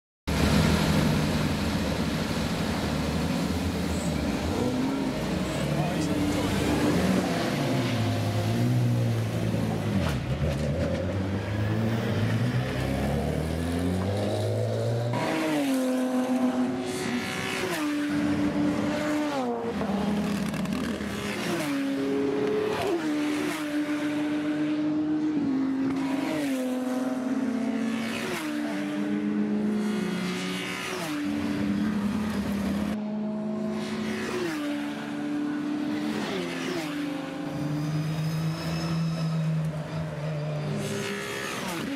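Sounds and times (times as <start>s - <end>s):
race car engines revving: 0.3s - 41.9s.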